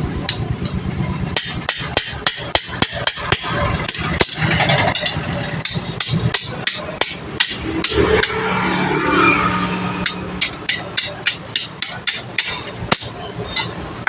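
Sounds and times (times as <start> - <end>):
hammer striking metal: 0.2 - 14.0.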